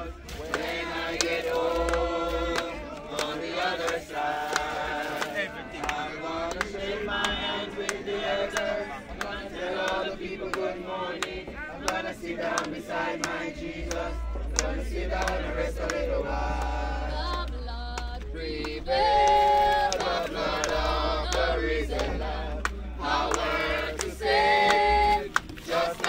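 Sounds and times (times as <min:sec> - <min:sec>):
group singing a hymn: 0:00.0 - 0:26.0
low steady rumble: 0:00.0 - 0:26.0
sharp claps keeping time: 0:00.0 - 0:26.0.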